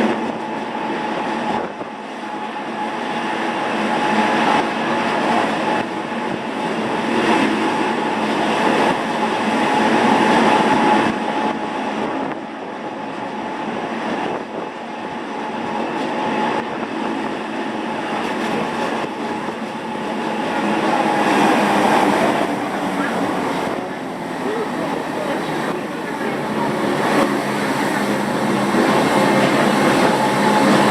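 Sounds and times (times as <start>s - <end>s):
faint train whine: 0.0s - 30.9s
train rumbling and rattling: 0.0s - 30.9s.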